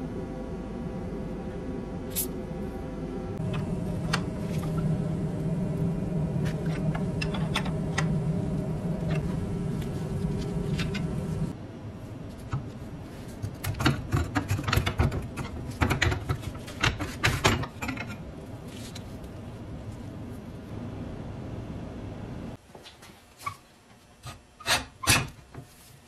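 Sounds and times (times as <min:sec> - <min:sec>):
steady low hum: 0:00.0 - 0:23.2.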